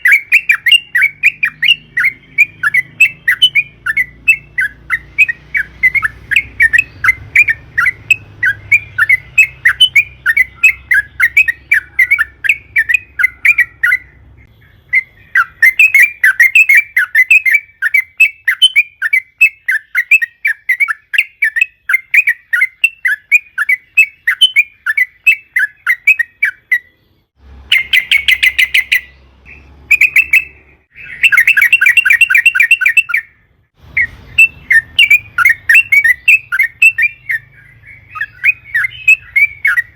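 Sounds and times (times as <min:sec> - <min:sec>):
bulbuls singing fast chirps: 0:00.0 - 0:39.9.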